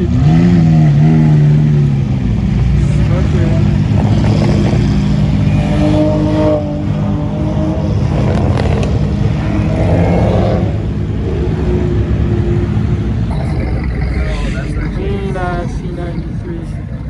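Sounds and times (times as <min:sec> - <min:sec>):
car engines rumbling in traffic: 0:00.0 - 0:17.0.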